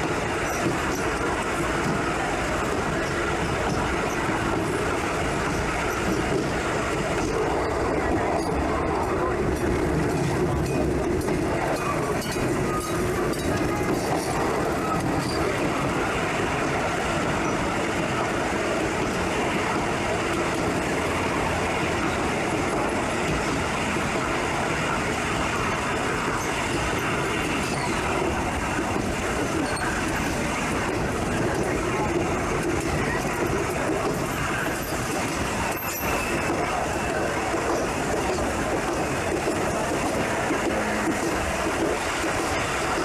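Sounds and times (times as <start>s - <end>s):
train wheels on rails: 0.0s - 43.0s.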